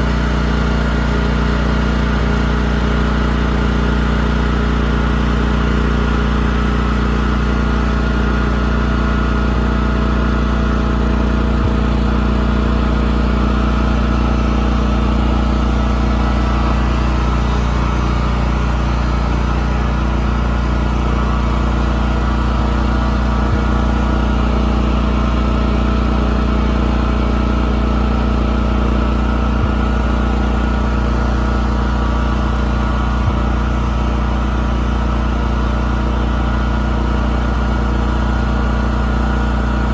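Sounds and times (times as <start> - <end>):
model boat engine humming: 0.0 - 39.9.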